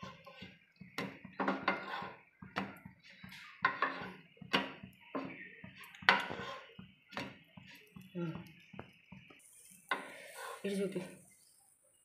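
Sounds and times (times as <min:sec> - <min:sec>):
bread tapping and scraping on griddle: 0:00.0 - 0:10.6.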